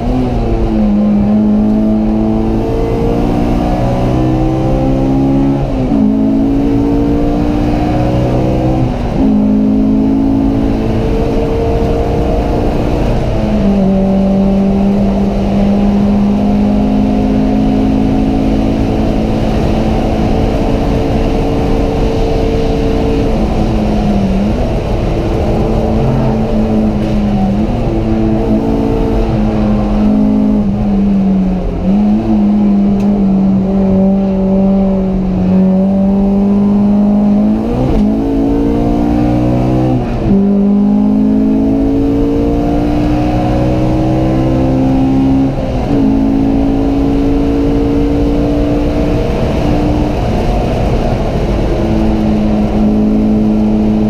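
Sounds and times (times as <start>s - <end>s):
car engine running hard: 0.0s - 54.0s.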